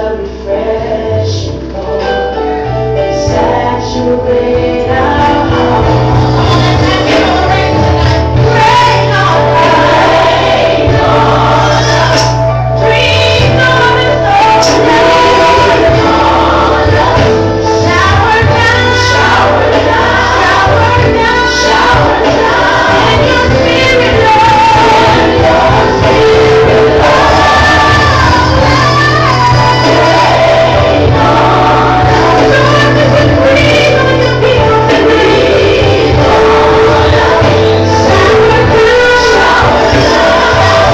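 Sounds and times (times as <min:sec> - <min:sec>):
gospel song with choir: 0:00.0 - 0:40.9.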